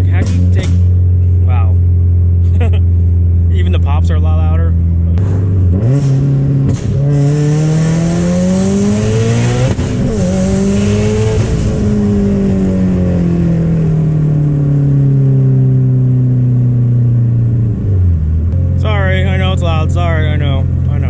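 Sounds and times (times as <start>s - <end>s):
car engine revving: 0.0s - 21.0s
loud raspy exhaust: 0.0s - 21.0s.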